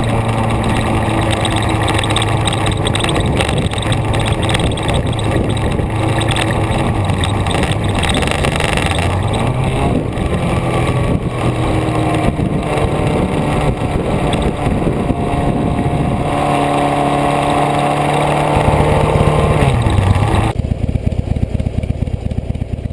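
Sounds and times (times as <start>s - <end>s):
vehicle engine running: 0.0s - 22.9s
wind and road noise: 0.0s - 22.9s.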